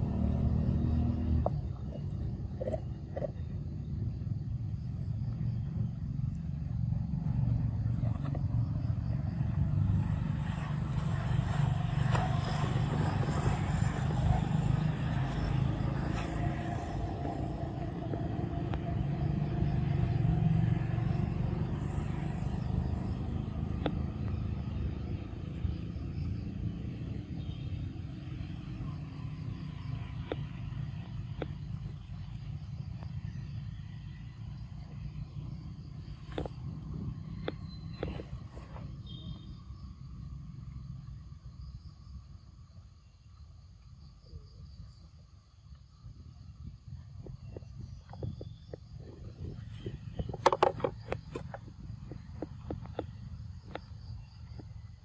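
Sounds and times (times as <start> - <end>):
low rumble of motor vehicles: 0.0 - 55.0.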